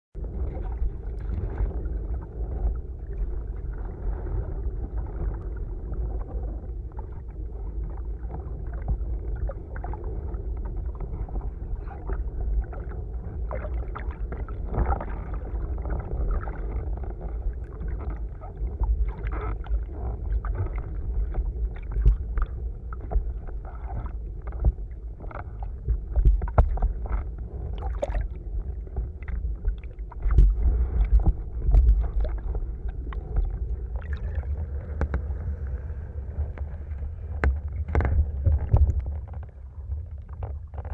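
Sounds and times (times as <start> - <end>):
rushing and slapping water: 0.2 - 40.9.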